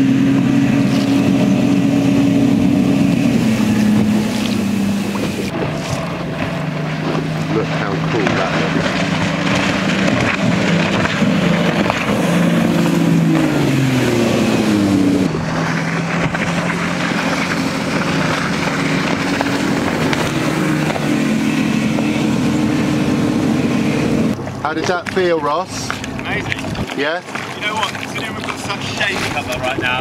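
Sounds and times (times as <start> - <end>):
outboard engines at high speed: 0.0 - 30.0
water and wind rushing: 0.0 - 30.0.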